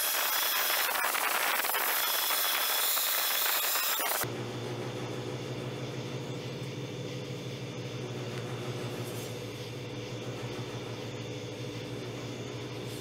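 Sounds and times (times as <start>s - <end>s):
electric motor humming: 0.0s - 13.0s.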